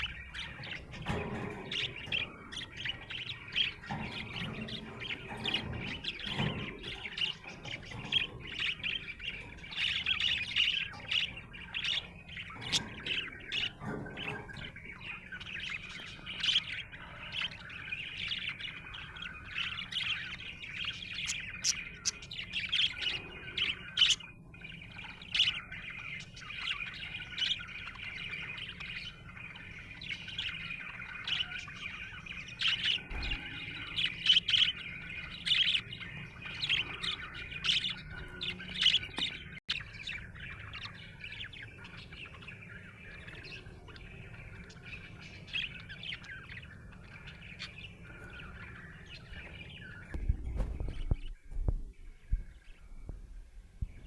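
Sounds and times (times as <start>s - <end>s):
budgerigar chirping and warbling: 0.0s - 51.2s.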